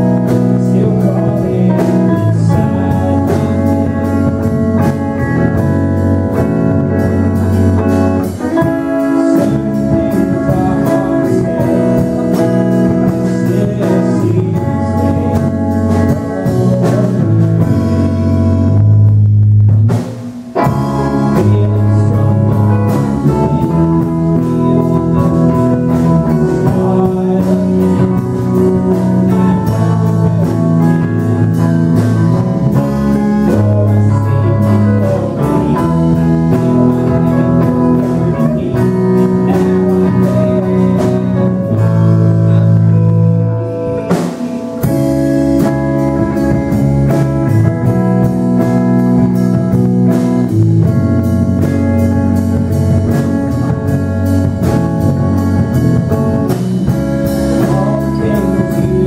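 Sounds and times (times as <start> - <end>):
person singing: 0.0 - 18.9, 20.5 - 59.0
rock band playing live: 0.0 - 59.0.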